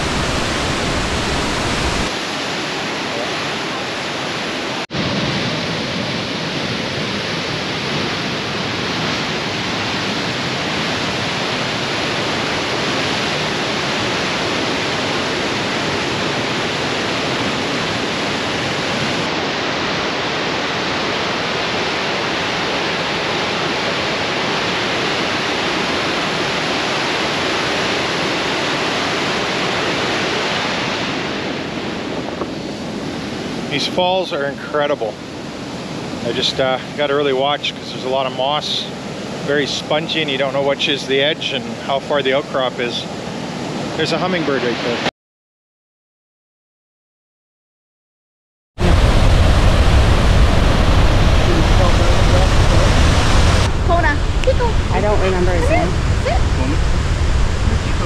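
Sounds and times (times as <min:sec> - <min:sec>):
waterfall rushing: 0:00.0 - 0:45.0, 0:48.8 - 0:58.0.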